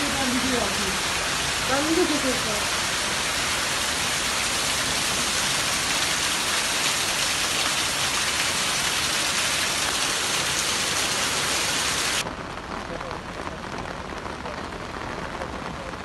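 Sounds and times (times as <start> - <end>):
heavy rain on paving: 0.0 - 16.0.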